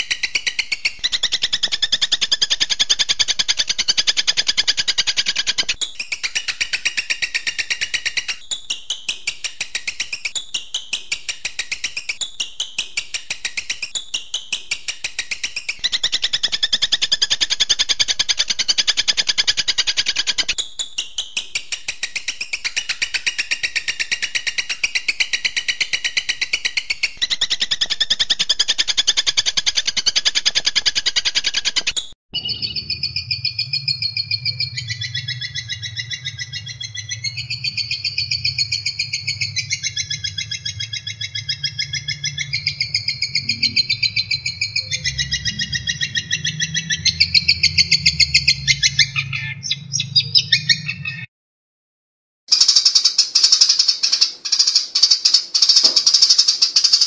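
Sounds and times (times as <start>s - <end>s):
songbird singing: 0.0s - 31.8s, 32.4s - 51.3s, 52.5s - 57.0s.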